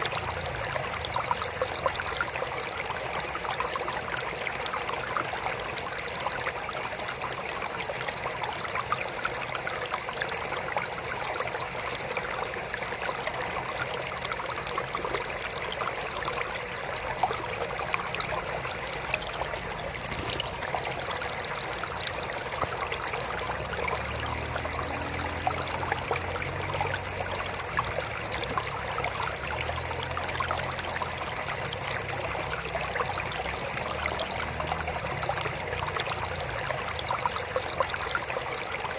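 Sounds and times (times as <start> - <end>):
water trickling into aquarium: 0.0 - 38.9.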